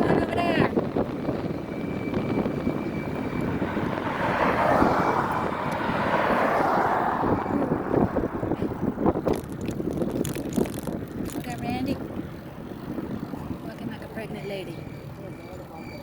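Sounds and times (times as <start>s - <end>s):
wind rumble on microphone: 0.0s - 16.0s
vehicle engine passing: 2.4s - 15.7s.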